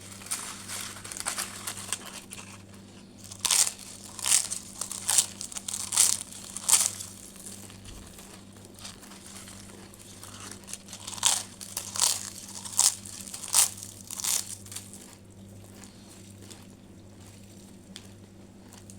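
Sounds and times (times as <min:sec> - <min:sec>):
crunchy food being chewed: 0:00.0 - 0:18.9
faint steady hum: 0:00.0 - 0:18.9.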